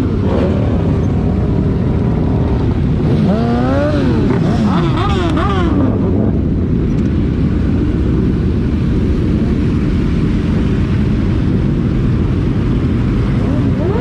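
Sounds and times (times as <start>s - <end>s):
motorcycle engine drone: 0.0s - 14.0s
road and wind noise: 0.0s - 14.0s.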